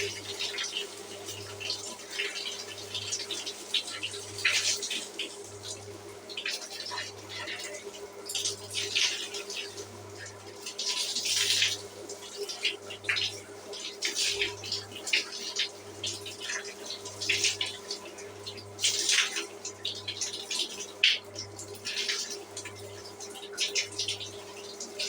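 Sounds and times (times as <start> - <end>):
shower water splashing: 0.0 - 25.0.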